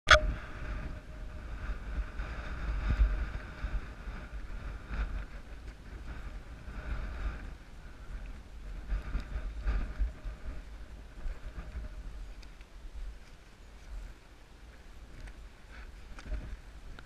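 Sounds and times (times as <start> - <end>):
wind buffeting microphone: 0.2 - 17.0.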